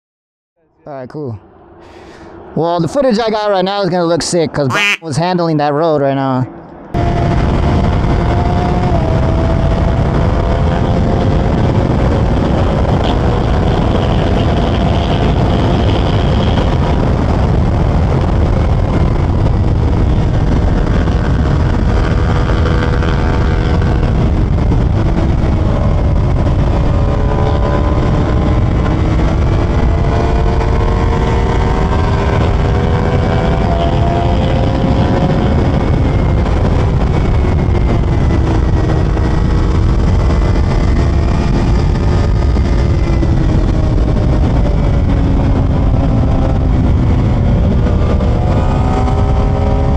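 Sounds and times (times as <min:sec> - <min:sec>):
wind rush on microphone: 0:06.7 - 0:49.9
motorcycle engine running hard: 0:07.0 - 0:49.9.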